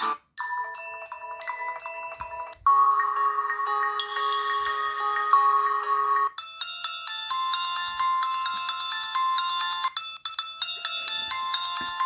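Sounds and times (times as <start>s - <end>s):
bell-like phone ringtone: 0.0s - 12.0s.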